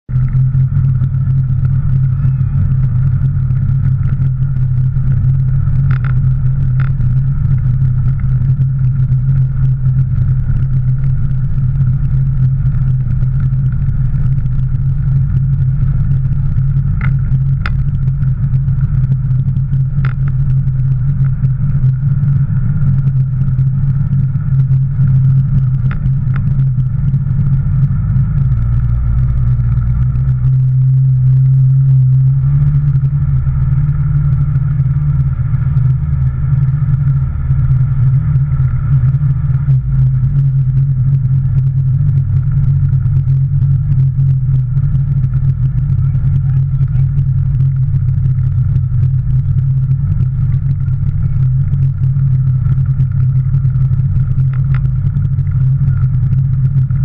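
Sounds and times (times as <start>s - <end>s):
jet ski engine droning: 0.0s - 57.0s.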